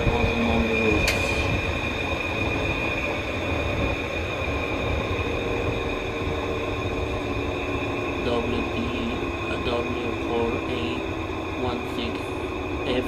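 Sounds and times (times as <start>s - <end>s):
washing machine high whine: 0.0s - 13.0s
washing machine rumble: 0.0s - 13.0s.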